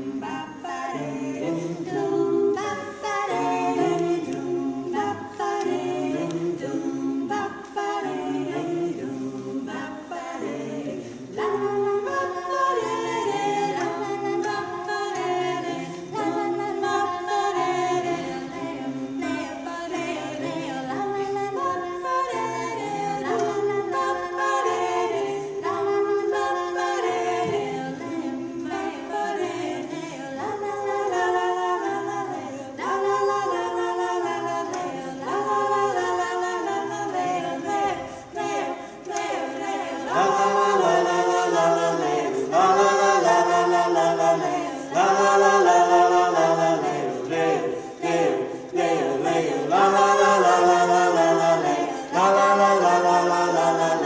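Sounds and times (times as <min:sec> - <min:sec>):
group singing in harmony: 0:00.0 - 0:54.0.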